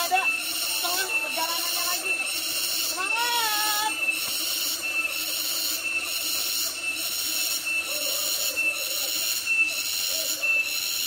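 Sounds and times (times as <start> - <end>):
cicadas buzzing chorus: 0.0 - 11.0.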